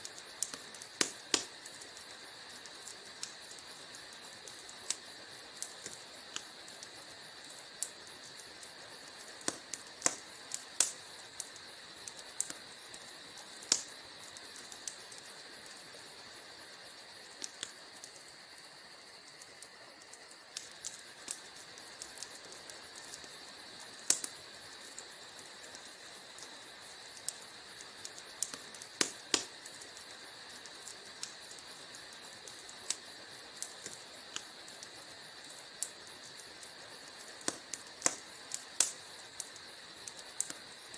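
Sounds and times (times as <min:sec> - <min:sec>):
steady high hiss: 0:00.0 - 0:40.9
wood fire crackling and popping: 0:00.0 - 0:40.9.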